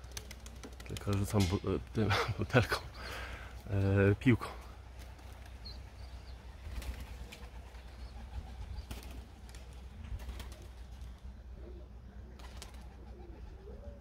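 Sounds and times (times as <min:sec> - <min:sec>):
pigeons cooing: 0:00.0 - 0:03.6, 0:04.4 - 0:14.0.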